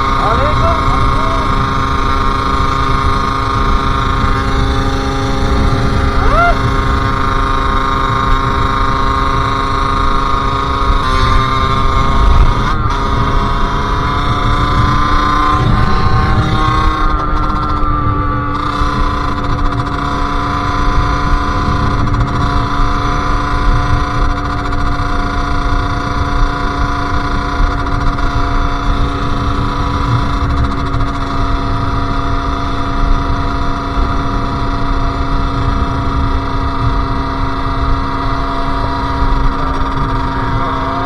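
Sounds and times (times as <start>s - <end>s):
two-stroke motorcycle engine running: 0.0s - 41.0s.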